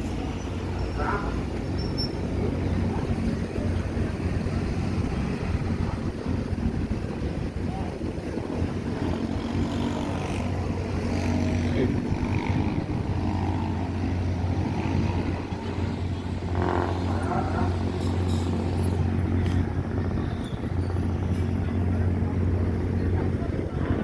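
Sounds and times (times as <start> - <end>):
ferry engine hum: 0.0 - 24.0.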